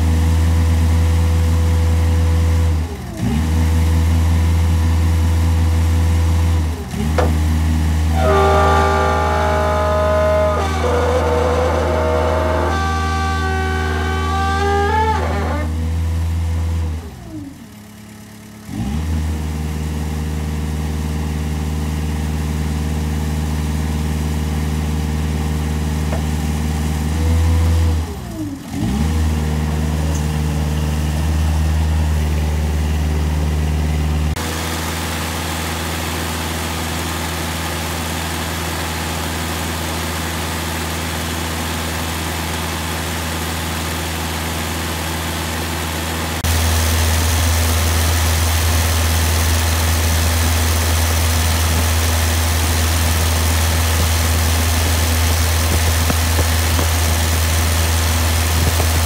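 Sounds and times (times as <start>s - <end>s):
boom lift engine revving: 0.0s - 59.0s.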